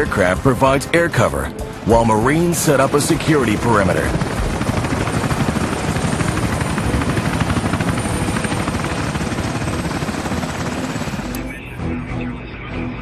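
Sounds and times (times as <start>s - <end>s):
helicopter rotor chopping: 0.0s - 11.8s.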